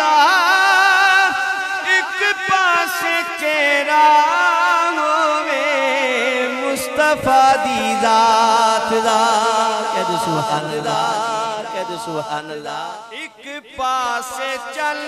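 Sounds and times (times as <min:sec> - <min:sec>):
male voices chanting: 0:00.0 - 0:15.0.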